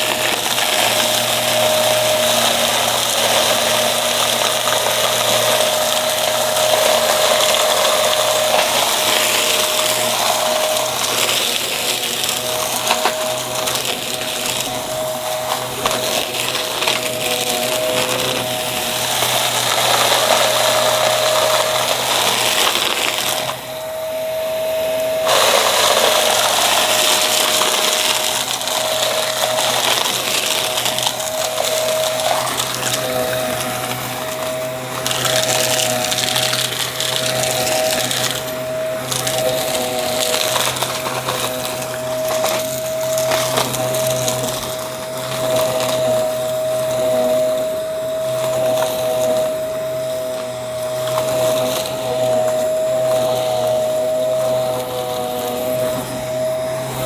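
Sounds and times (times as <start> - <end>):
debris crackling in nozzle: 0.0 - 23.7, 25.2 - 56.3
vacuum cleaner motor whine: 0.0 - 57.0.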